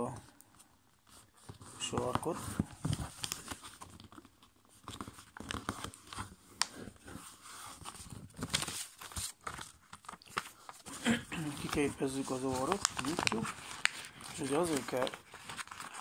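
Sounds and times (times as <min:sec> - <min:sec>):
paper folding and crinkling: 0:00.0 - 0:16.0.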